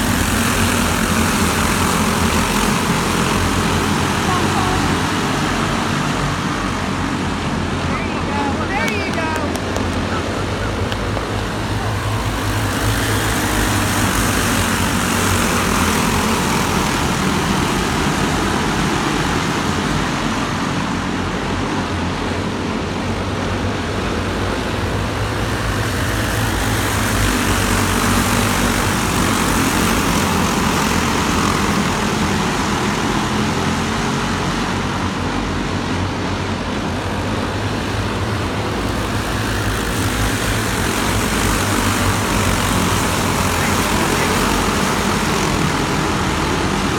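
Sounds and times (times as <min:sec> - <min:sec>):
go-kart engines racing: 0:00.0 - 0:46.9.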